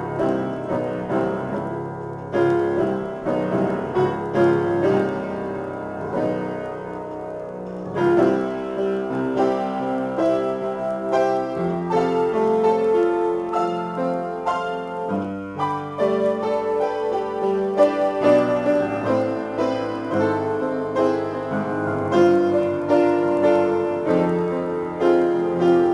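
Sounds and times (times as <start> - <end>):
piano chords and melody: 0.0 - 25.9.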